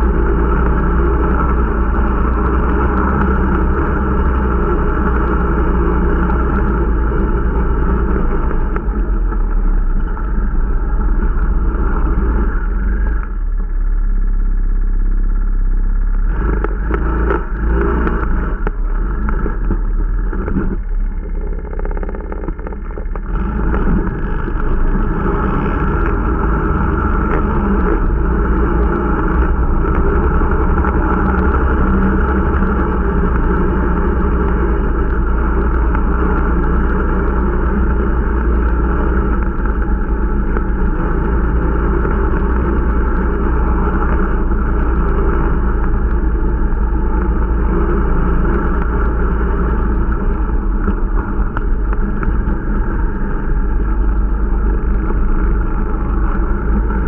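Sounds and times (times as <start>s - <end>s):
snowmobile engine and track drone: 0.0s - 57.0s.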